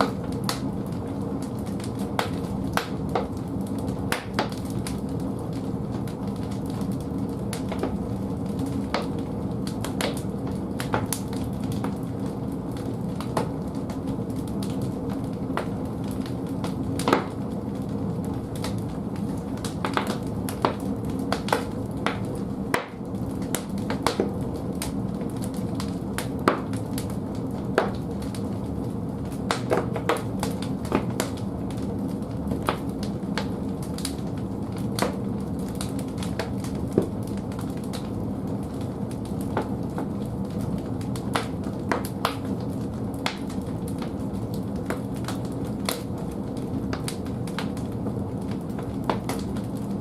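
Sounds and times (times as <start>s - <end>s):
burning wood crackling and popping: 0.0s - 50.0s
low rush of fire: 0.0s - 50.0s.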